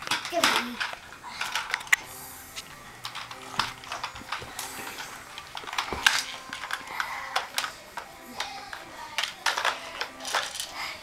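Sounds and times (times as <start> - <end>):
plastic toy cars clacking: 0.0 - 2.0, 3.0 - 11.0.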